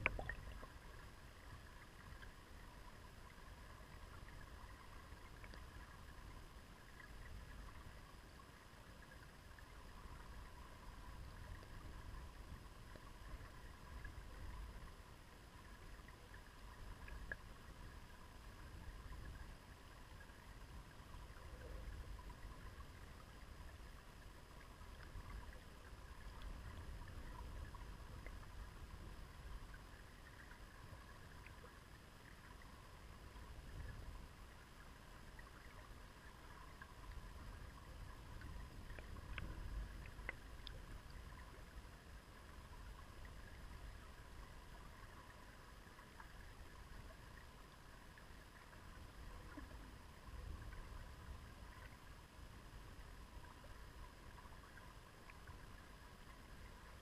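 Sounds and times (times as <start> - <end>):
thin steady hum: 0.0 - 57.0
underwater river rumble: 0.0 - 57.0.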